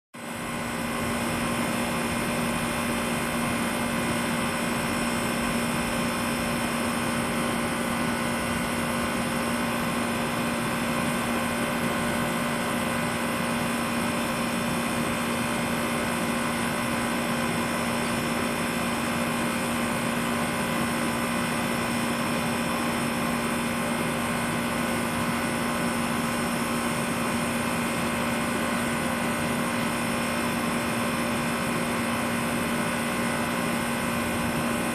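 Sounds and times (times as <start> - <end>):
heat pump humming: 0.2 - 34.9.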